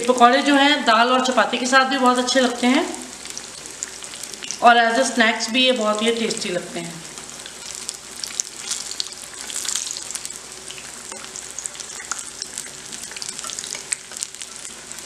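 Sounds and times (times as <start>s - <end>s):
oil sizzling and popping: 0.0s - 15.0s.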